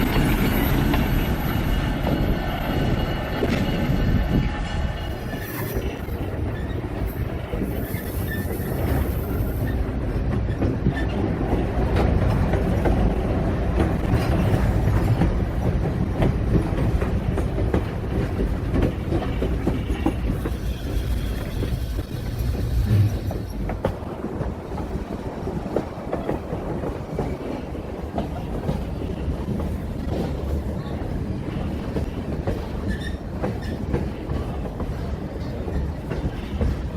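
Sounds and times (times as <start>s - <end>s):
train rolling on rails: 0.0s - 36.9s.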